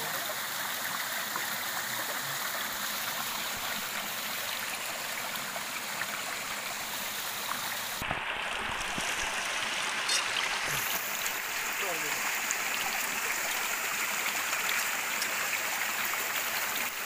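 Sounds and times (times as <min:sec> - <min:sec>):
water rushing over waterfall: 0:00.0 - 0:17.0.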